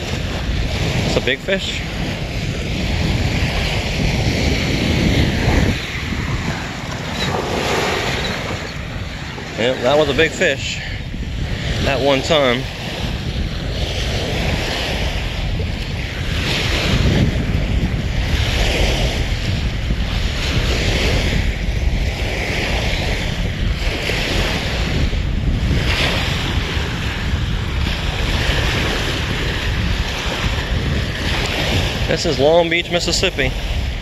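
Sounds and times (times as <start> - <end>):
small waves breaking on beach: 0.0 - 34.0
wind rumbling on microphone: 0.0 - 34.0.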